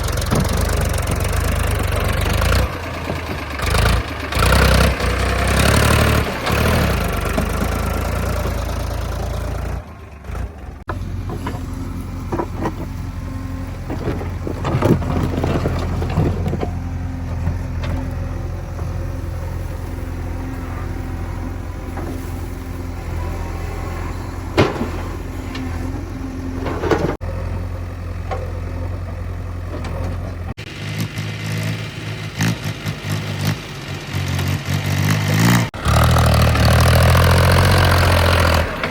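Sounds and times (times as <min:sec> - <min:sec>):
heavy diesel engine rumbling: 0:00.0 - 0:38.9.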